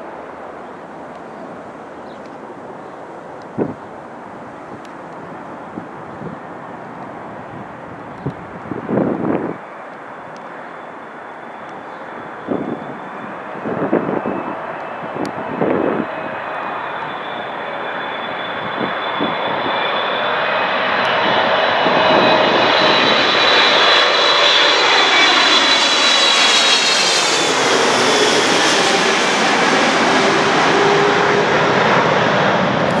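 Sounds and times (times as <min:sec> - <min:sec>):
jet engines whining overhead: 0:00.0 - 0:33.0.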